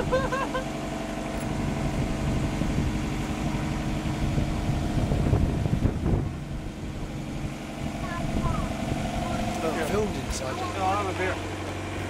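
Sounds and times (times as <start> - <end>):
boat engine running: 0.0 - 12.0
wind and water rushing: 0.0 - 12.0.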